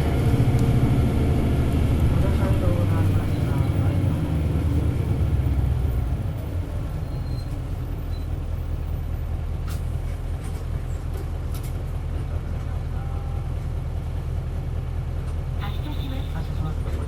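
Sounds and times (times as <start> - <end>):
diesel bus engine: 0.0 - 17.0.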